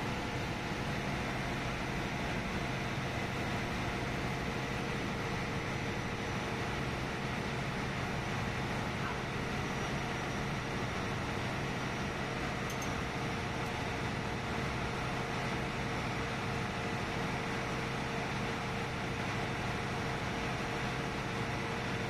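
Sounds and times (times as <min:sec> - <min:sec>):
engine-room machinery drone: 0:00.0 - 0:22.0.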